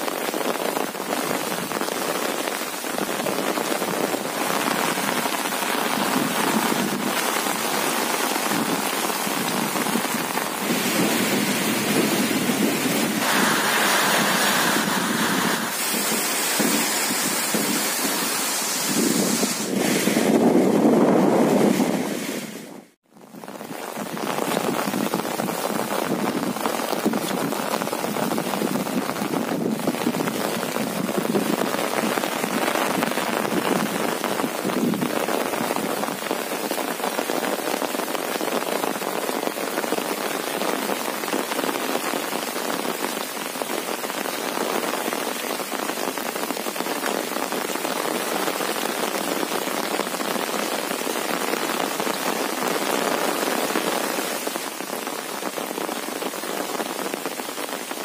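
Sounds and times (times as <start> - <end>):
rain on an umbrella: 0.0 - 58.0.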